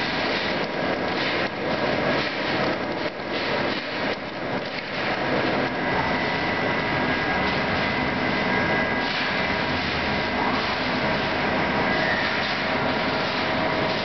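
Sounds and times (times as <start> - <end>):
coolant spraying: 0.0 - 14.0.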